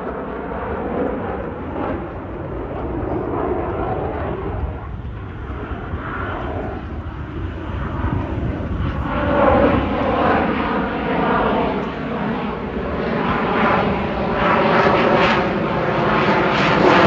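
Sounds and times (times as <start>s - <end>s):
airplane flying past: 0.0s - 17.0s.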